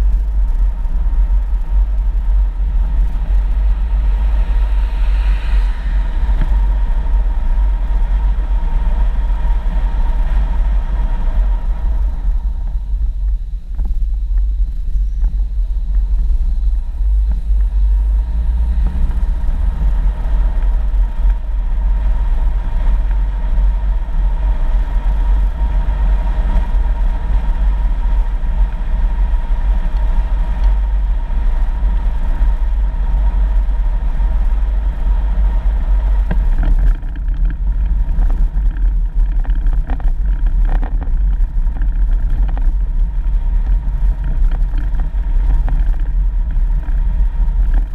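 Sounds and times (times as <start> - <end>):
vehicle rumbling on dirt road: 0.0 - 47.9.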